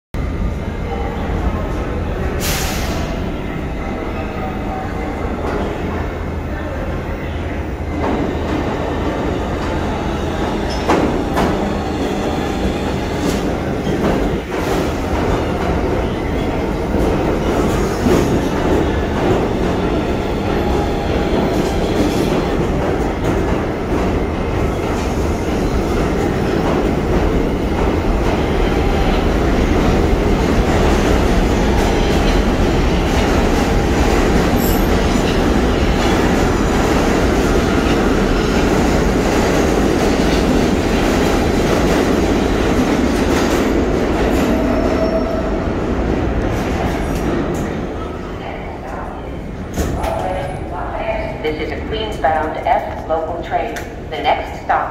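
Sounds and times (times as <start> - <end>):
subway train rumbling: 0.1 - 54.9.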